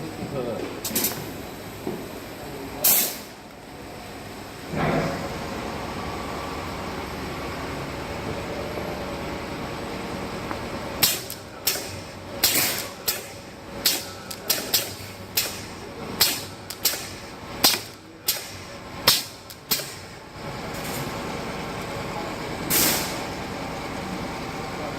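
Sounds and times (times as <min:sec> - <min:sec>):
steady mechanical hum: 0:00.0 - 0:24.9.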